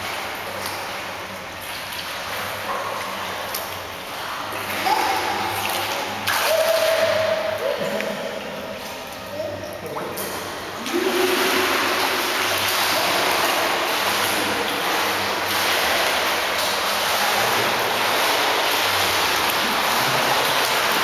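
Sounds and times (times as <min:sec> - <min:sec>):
churning water in pool: 0:00.0 - 0:21.0.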